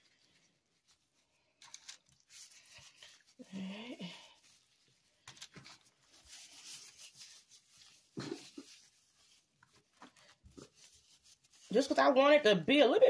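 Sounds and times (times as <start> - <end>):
plastic gloves and foil crinkling: 0.0 - 13.0.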